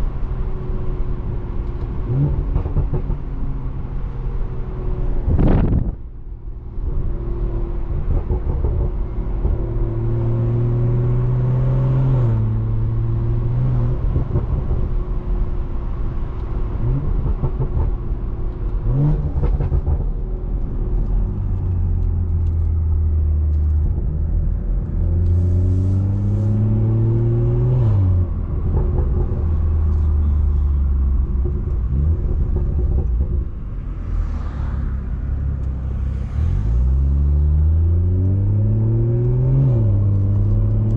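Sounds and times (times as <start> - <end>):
car engine revving and shifting: 0.0 - 6.0, 6.8 - 40.9.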